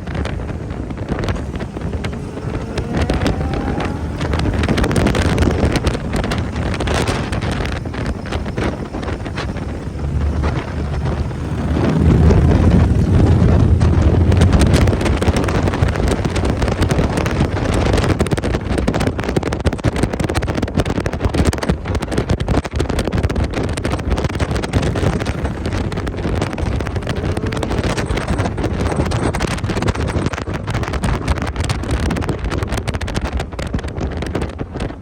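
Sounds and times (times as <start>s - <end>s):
motorcycle engine rumble: 0.0s - 35.0s
wind buffeting microphone: 0.0s - 35.0s.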